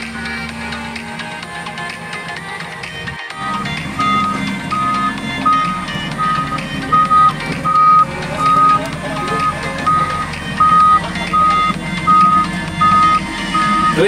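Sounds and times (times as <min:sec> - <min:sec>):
backup alarm beeping: 0:00.0 - 0:14.0
diesel engine running: 0:00.0 - 0:14.0.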